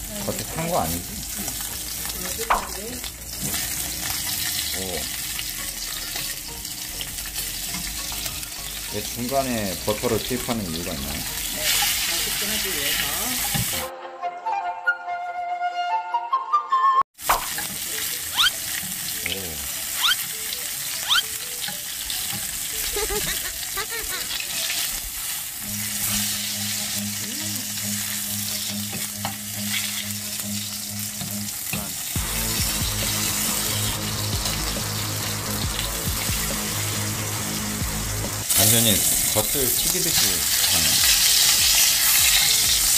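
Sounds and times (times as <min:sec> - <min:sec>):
steak sizzling in a frying pan: 0:00.0 - 0:13.9, 0:17.2 - 0:42.9.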